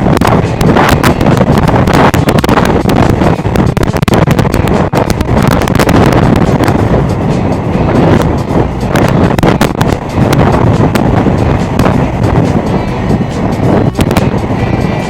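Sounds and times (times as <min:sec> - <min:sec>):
knocks from wind gusts: 0:00.0 - 0:15.0
storm wind buffeting microphone: 0:00.0 - 0:15.0.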